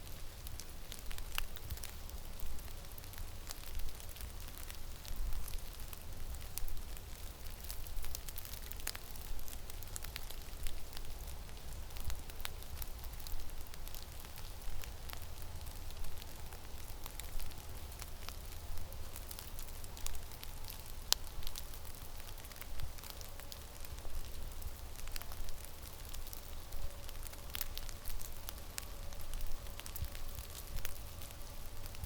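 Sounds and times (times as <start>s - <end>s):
crackles and ticks: 0.0s - 32.0s.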